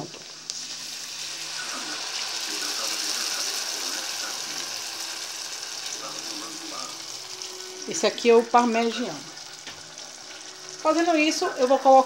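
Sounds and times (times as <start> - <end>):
onion sizzling in butter: 0.0 - 12.0
sauce pouring into pan: 0.2 - 10.9.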